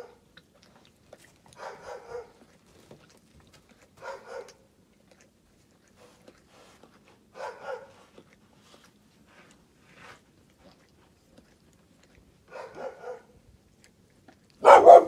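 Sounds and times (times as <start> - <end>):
wolf licking paw: 0.0 - 15.0.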